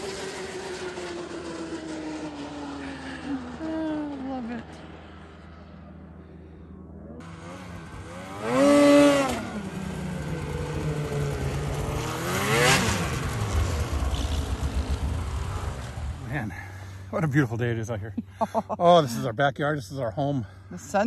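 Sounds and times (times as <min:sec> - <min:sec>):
snowmobile engine revving: 0:00.0 - 0:17.6.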